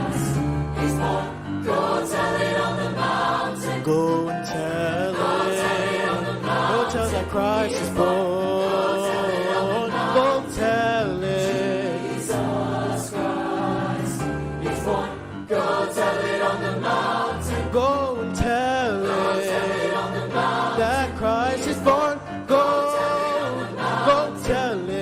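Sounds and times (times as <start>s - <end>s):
choir singing: 0.0s - 25.0s
musical accompaniment: 0.0s - 25.0s.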